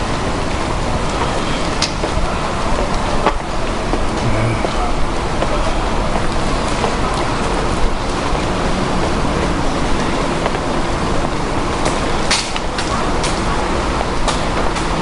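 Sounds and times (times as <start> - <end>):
distant city traffic: 0.0 - 15.0.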